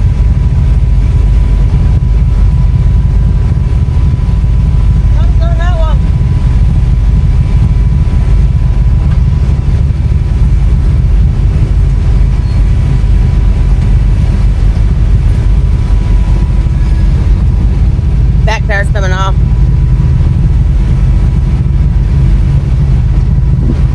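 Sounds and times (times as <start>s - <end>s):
faint constant whine: 0.0s - 23.9s
off-road engine deep rumble: 0.0s - 23.9s.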